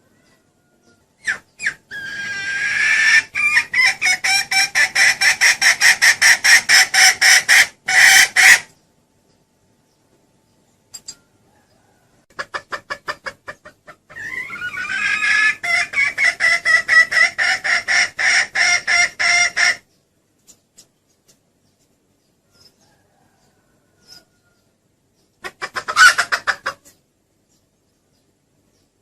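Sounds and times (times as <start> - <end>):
hen clucking and cackling: 0.0 - 8.8, 11.0 - 21.4, 22.3 - 27.8.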